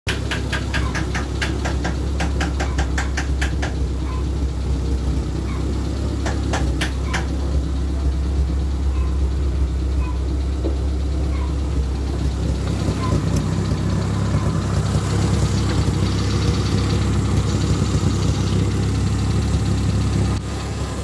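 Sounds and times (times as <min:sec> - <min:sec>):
engine idling: 0:00.1 - 0:21.0.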